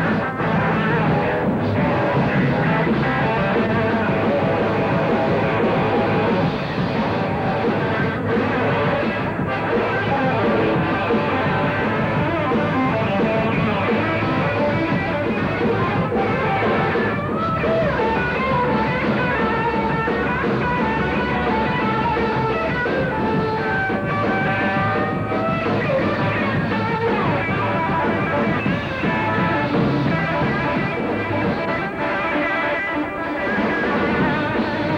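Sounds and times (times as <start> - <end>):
electric guitar lead with bends: 0.0 - 34.9
rock band playing: 0.0 - 34.9.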